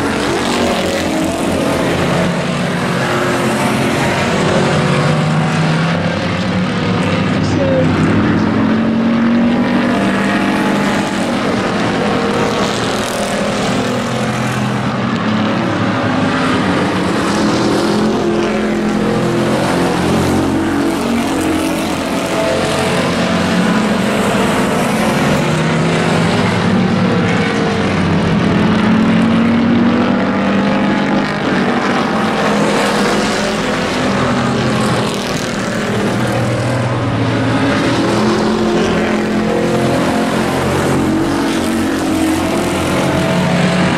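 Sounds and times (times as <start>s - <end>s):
race truck engines: 0.0s - 43.9s.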